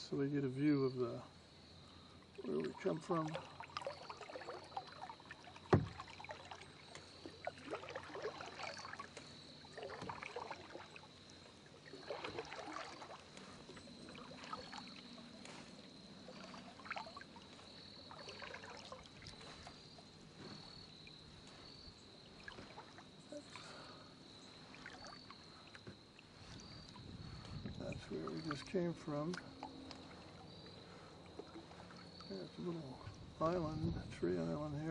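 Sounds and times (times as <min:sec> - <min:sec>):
water dripping from paddle: 0:00.6 - 0:33.8
paddle splashing in water: 0:02.2 - 0:33.7.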